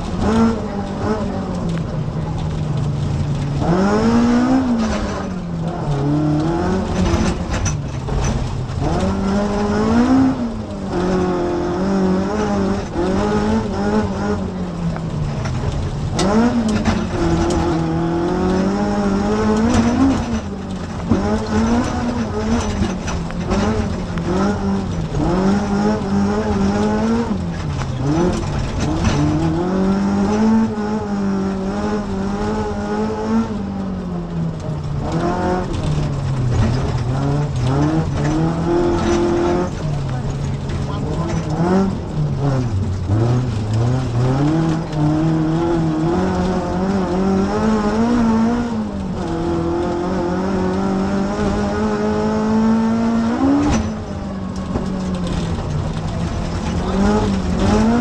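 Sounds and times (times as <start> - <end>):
car rattling on rough surface: 0.0 - 58.0
rally car engine revving: 0.0 - 58.0.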